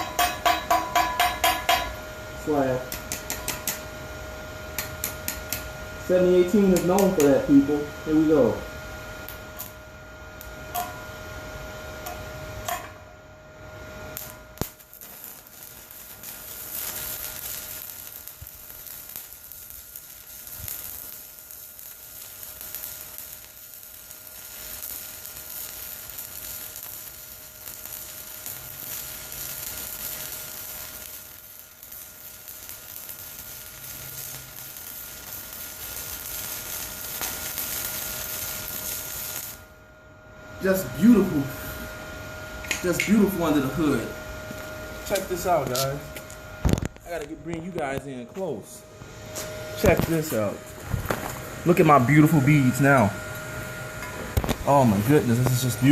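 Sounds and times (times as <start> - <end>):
welding arc crackling: 0.0 - 39.8, 40.6 - 55.9
thin steady whine: 0.0 - 55.9.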